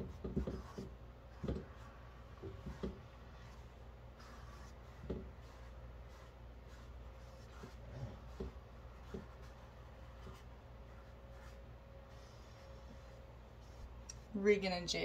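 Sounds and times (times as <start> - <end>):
paintbrush strokes on canvas: 0.0 - 14.3
low room hum: 0.0 - 15.0.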